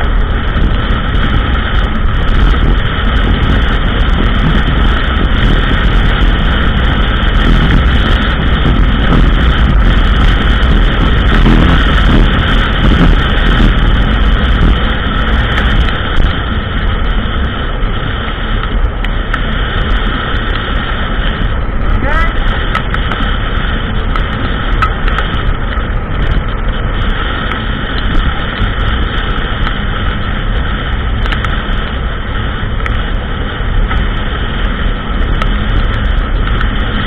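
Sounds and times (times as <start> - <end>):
atv engine running: 0.0 - 37.0.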